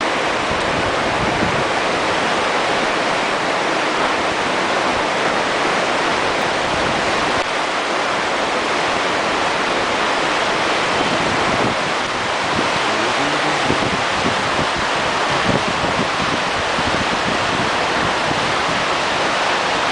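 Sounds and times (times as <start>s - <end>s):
water rushing: 0.0s - 19.9s.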